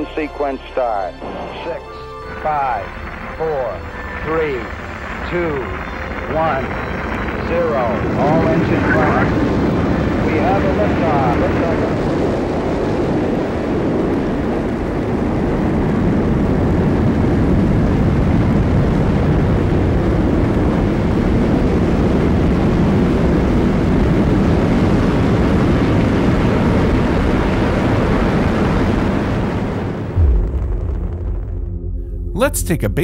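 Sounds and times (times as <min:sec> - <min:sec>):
rocket engines rumbling: 0:00.0 - 0:33.0.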